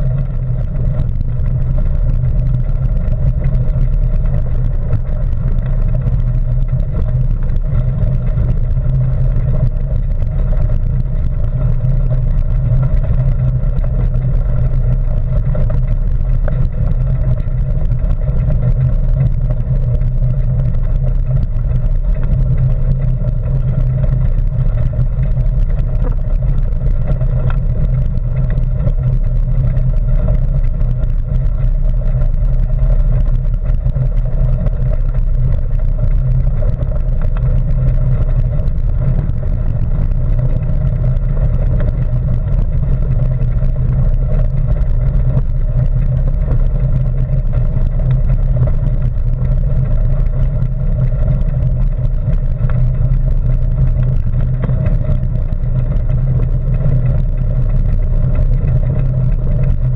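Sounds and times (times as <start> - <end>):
bicycle tyres rolling on gravel: 0.0 - 59.9
wind on microphone: 0.0 - 59.9.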